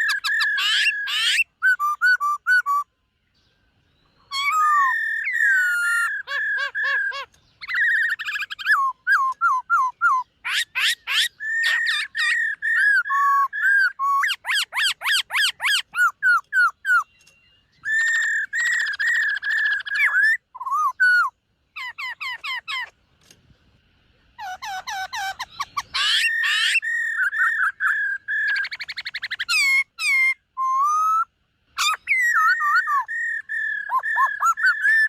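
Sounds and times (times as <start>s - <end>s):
bird singing whistled song: 0.0s - 23.0s, 24.4s - 35.0s.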